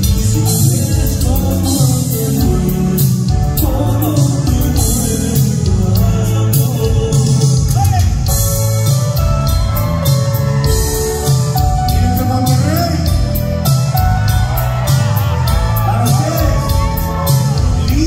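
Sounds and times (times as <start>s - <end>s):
man singing lead: 0.0s - 8.6s, 10.6s - 13.8s, 14.8s - 18.0s
bass line: 0.0s - 18.0s
drums with cymbals: 0.0s - 18.0s.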